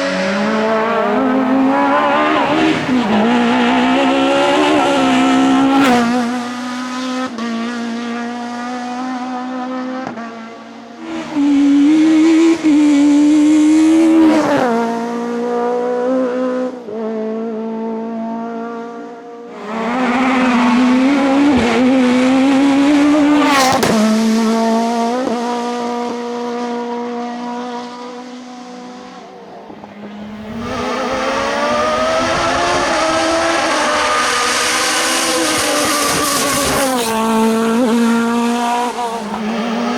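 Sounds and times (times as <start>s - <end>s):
race car engines accelerating: 0.0s - 39.9s.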